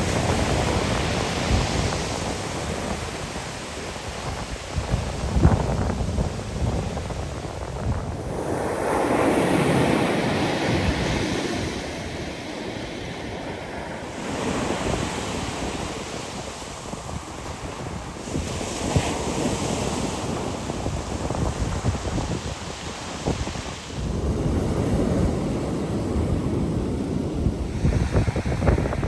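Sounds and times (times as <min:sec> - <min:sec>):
ocean waves breaking on shore: 0:00.0 - 0:29.0
wind buffeting microphone: 0:00.0 - 0:29.0.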